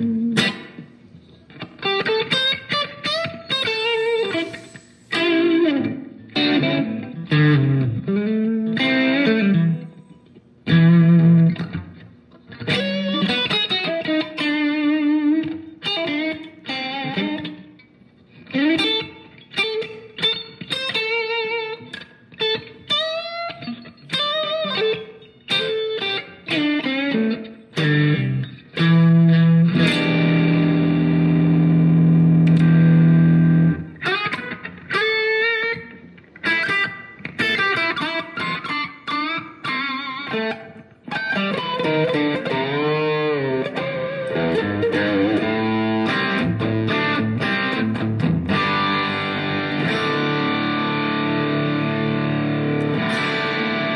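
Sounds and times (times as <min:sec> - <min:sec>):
electric guitar lead phrases: 0:00.0 - 0:53.9.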